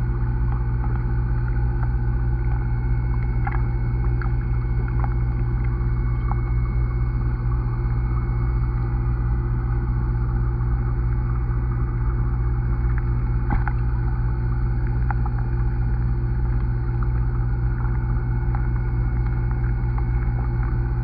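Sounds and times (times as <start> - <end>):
muffled underwater hum: 0.0 - 21.0.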